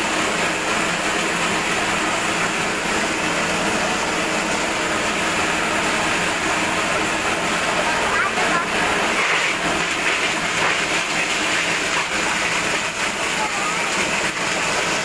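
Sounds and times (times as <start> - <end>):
shredder machine running: 0.0 - 15.0.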